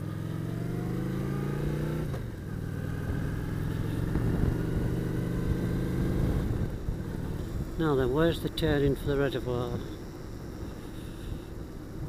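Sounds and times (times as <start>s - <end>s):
motorcycle engine accelerating: 0.0s - 12.0s
wind rumble: 2.1s - 12.0s.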